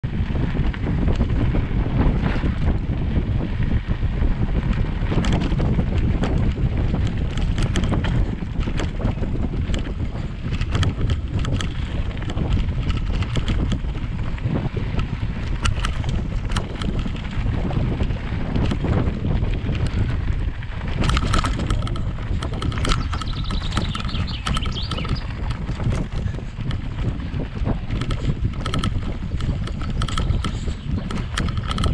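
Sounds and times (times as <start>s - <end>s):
bike clicking and rattling: 0.0s - 31.9s
wind rumbling on microphone: 0.0s - 31.9s.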